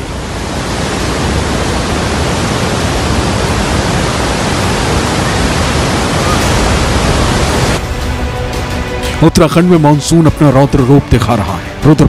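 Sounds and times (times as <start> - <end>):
river torrent rushing: 0.0 - 11.8.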